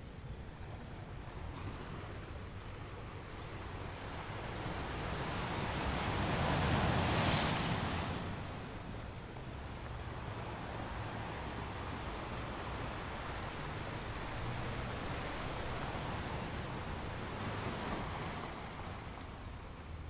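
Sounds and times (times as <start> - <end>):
sea surf wave wash: 0.4 - 20.0.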